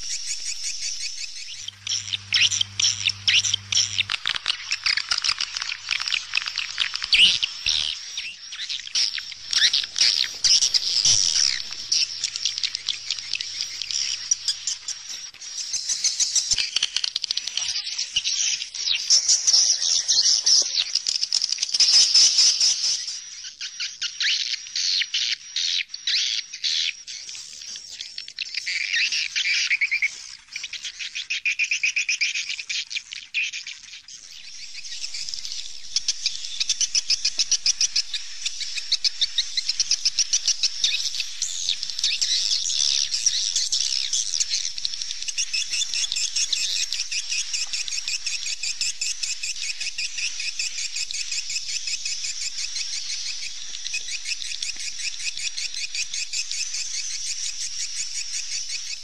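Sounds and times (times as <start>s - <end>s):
swallows twittering: 0.0s - 59.0s.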